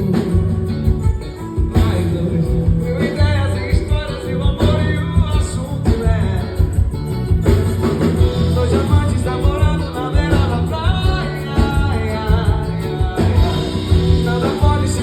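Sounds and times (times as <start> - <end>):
person singing: 0.0 - 7.3, 8.1 - 15.0
plucked strings bass and percussion: 0.0 - 15.0.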